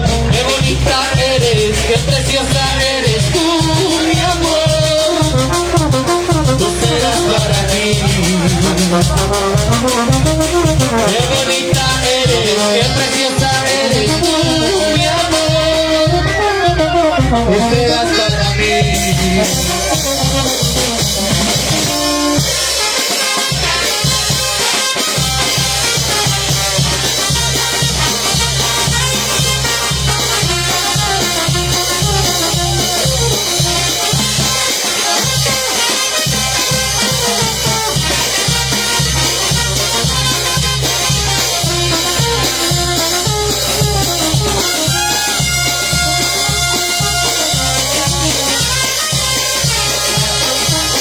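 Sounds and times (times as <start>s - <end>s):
drum kit and percussion: 0.0s - 51.0s
latin band playing: 0.0s - 51.0s.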